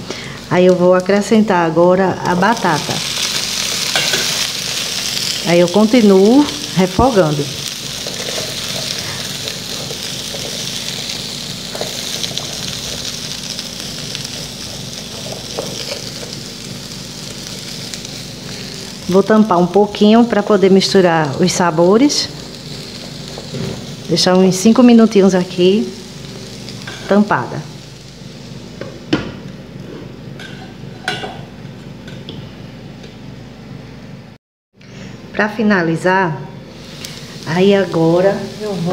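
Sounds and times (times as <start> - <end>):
food sizzling in oil: 0.0 - 29.5, 36.7 - 38.9.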